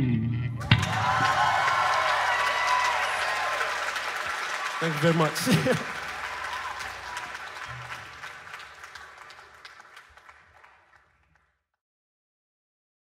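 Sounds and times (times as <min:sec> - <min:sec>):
audience applauding: 0:00.6 - 0:11.6.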